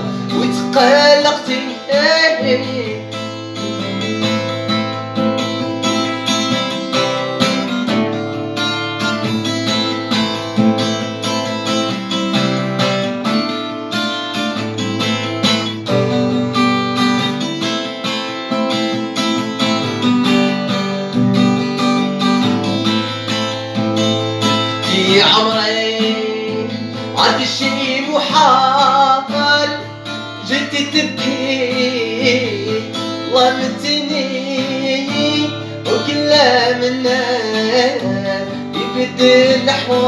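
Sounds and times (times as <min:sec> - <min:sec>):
acoustic guitar strumming: 0:00.0 - 0:40.0.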